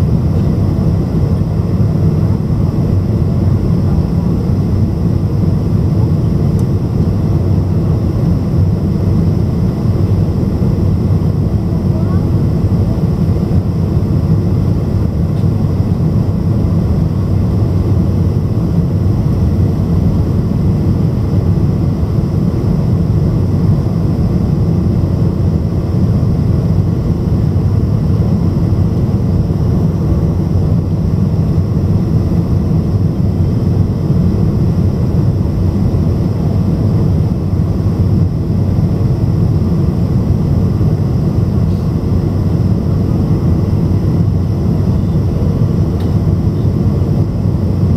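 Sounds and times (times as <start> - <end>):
aircraft cabin engine rumble: 0.0 - 47.9.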